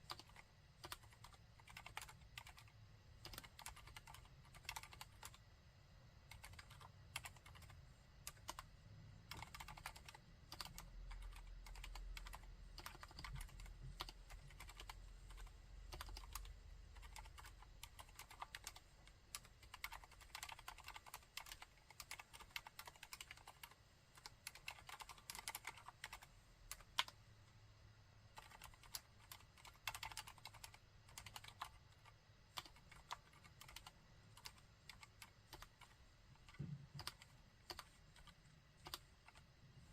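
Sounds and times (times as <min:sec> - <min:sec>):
quiet keyboard keystrokes: 0:00.0 - 0:05.4, 0:06.2 - 0:27.2, 0:28.3 - 0:39.9.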